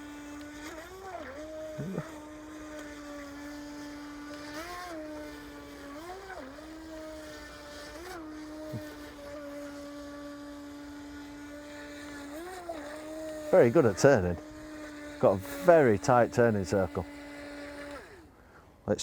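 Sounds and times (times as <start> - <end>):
electric boat motor whining: 0.0 - 19.0.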